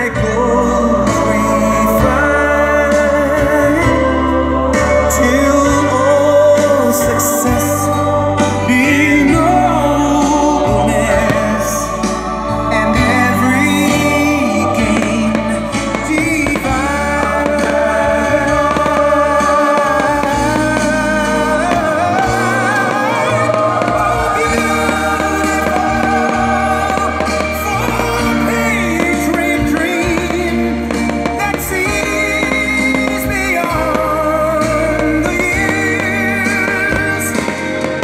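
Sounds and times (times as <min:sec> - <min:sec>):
song with singer and instruments: 0:00.0 - 0:38.0.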